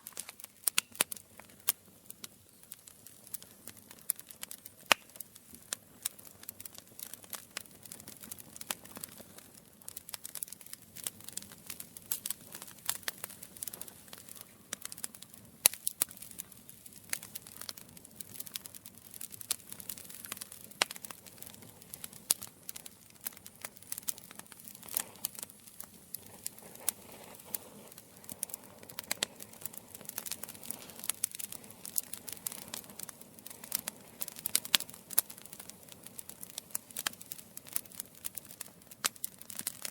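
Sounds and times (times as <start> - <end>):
campfire wood crackling: 0.0 - 39.9
loud fire pops: 0.0 - 39.9
soft fire hiss: 0.0 - 39.9.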